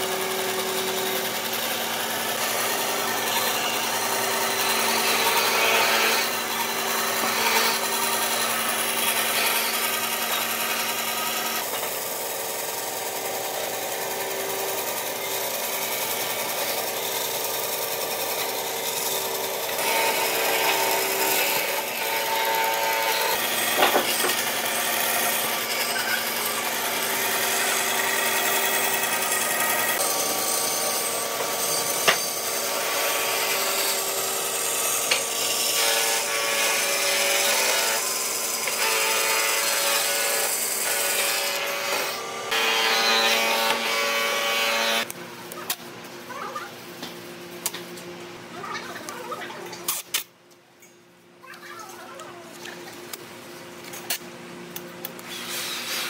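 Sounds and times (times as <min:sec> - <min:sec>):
band saw cutting wood: 0:00.0 - 0:45.1
band saw motor hum: 0:00.0 - 0:45.1.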